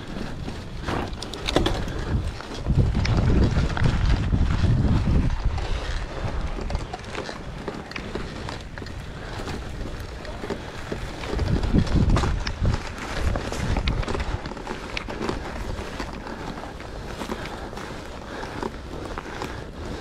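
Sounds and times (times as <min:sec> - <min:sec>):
bike tyre noise: 0:00.0 - 0:20.0
clicks and rattles over gravel: 0:00.0 - 0:20.0
wind buffeting microphone: 0:00.0 - 0:20.0.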